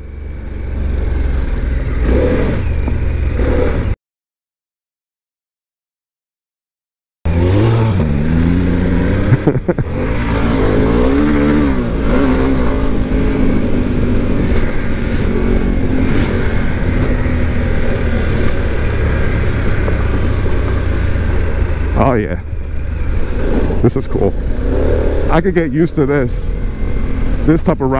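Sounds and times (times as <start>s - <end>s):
motorcycle engine revving: 0.0s - 4.0s, 7.3s - 27.9s.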